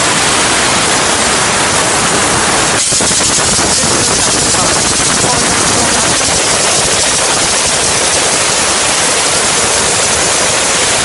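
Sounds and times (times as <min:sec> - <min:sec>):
steam spray lance hissing: 0:00.0 - 0:11.0.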